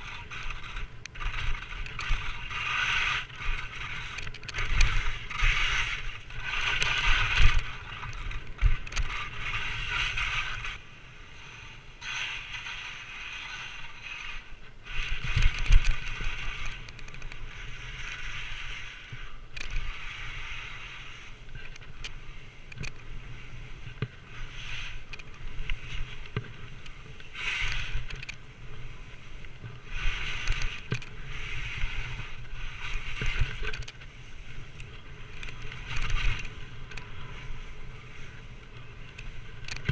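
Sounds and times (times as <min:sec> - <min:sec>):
skis scraping over snow: 0:00.0 - 0:39.9
wind rumble on microphone: 0:00.0 - 0:39.9.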